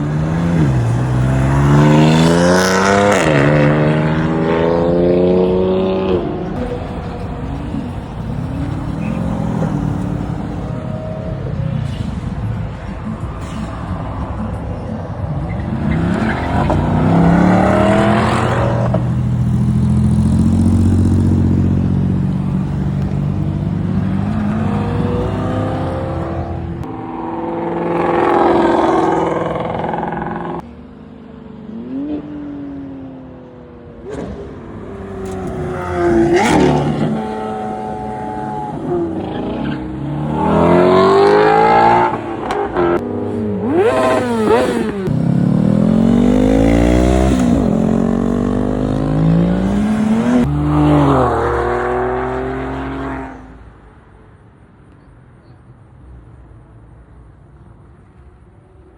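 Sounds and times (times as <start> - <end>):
car engines revving and accelerating: 0.0 - 54.0.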